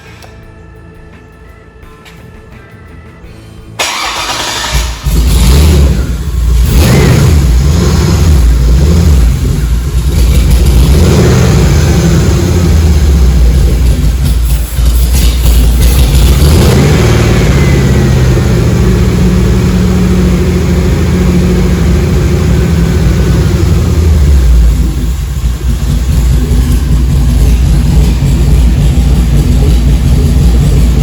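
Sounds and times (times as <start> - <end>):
car engine revving: 3.8 - 31.0.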